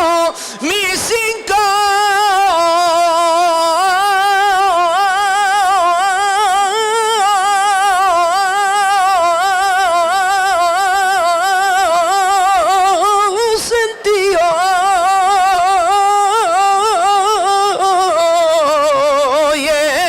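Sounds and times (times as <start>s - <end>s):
man singing flamenco: 0.0s - 20.0s.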